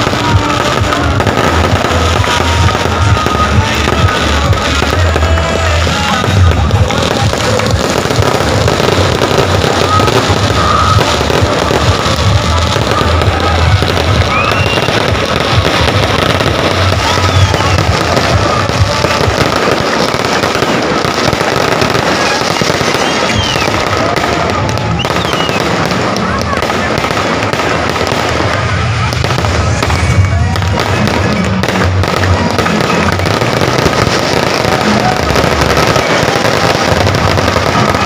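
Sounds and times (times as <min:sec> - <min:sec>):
fireworks crackling and popping: 0:00.0 - 0:38.0
music playing: 0:00.0 - 0:38.0.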